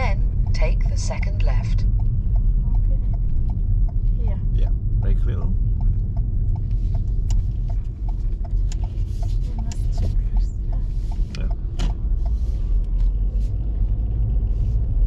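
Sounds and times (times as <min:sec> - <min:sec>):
car turn signal ticking: 0:00.0 - 0:14.5
engine and tyre rumble: 0:00.0 - 0:15.0.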